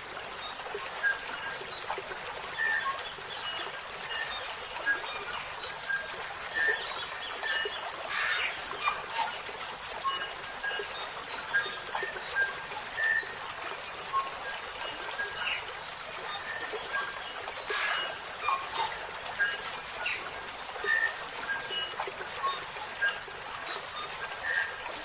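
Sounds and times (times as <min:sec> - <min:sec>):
running water trickling: 0:00.0 - 0:25.0.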